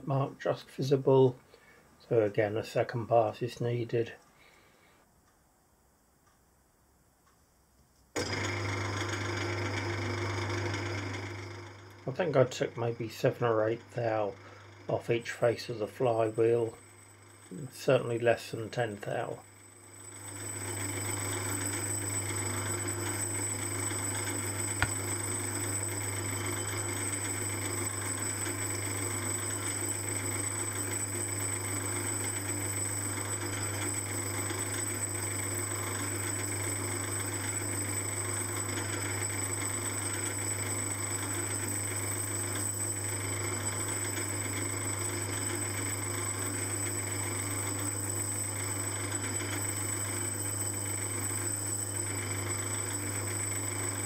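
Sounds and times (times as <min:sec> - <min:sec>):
metal lathe humming with high whine: 0:08.2 - 0:54.0.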